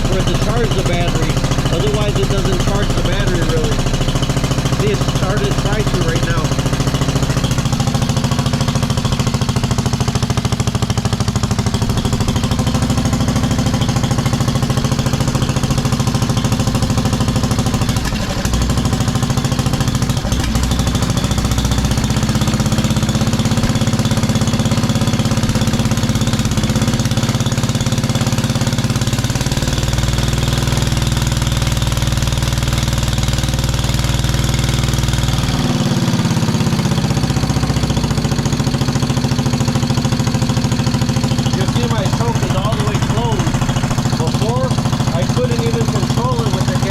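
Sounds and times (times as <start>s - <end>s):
lawn tractor engine running: 0.0s - 46.9s.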